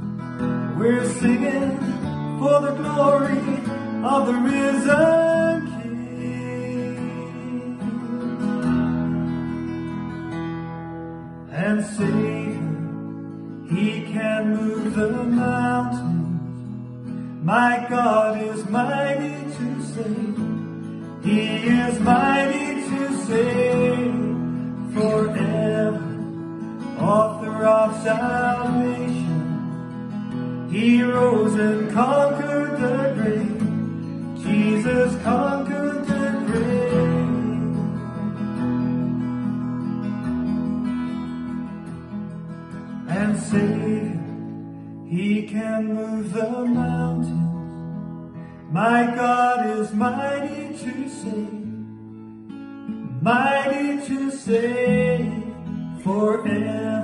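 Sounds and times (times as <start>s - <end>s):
strummed acoustic guitar: 0.0s - 57.0s
man singing: 0.7s - 8.7s, 11.4s - 38.4s, 42.9s - 48.0s, 48.6s - 52.0s, 53.1s - 57.0s.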